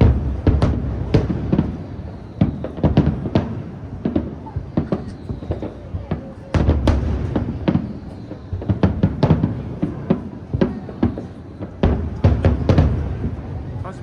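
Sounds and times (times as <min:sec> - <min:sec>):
fireworks bangs and crackles: 0:00.0 - 0:14.0
heavy fireworks boom: 0:00.0 - 0:14.0.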